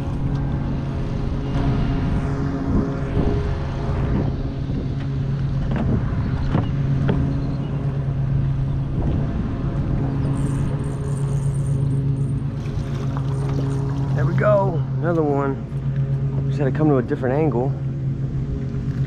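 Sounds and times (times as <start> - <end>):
trolling motor humming: 0.0 - 19.0.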